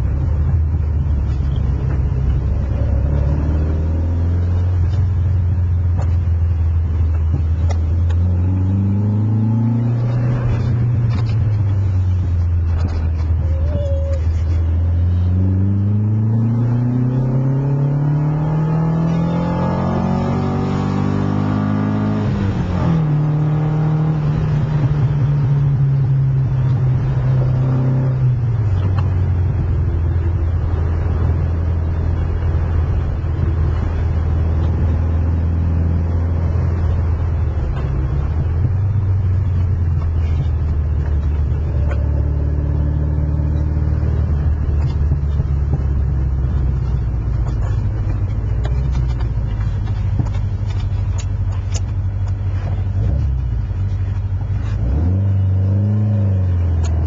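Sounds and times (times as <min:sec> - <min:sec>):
car engine revving through gears: 0:01.2 - 0:13.3, 0:14.7 - 0:57.0.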